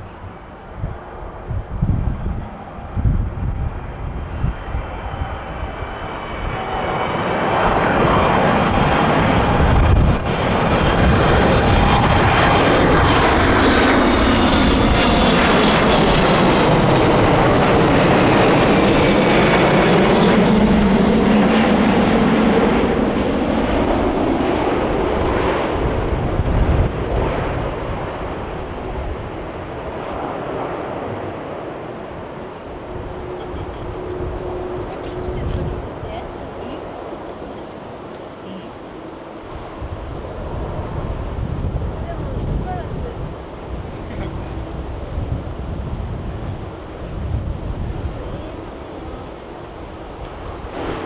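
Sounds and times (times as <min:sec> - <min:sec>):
jet airliner engines roaring: 0:00.0 - 0:51.0.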